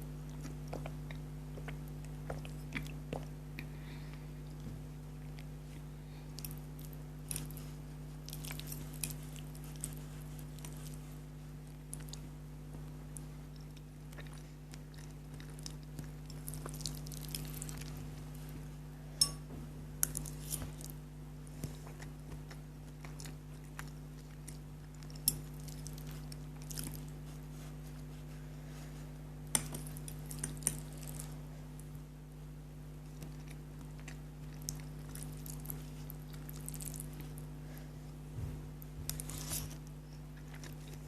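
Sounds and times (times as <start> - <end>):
noodles being chewed: 0.0 - 19.4, 20.0 - 32.0, 32.8 - 38.2, 38.8 - 41.0.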